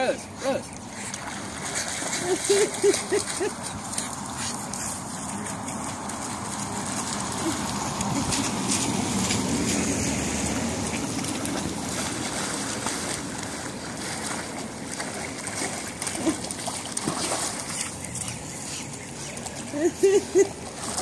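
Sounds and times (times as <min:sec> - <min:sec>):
dogs splashing through water: 0:00.0 - 0:21.0.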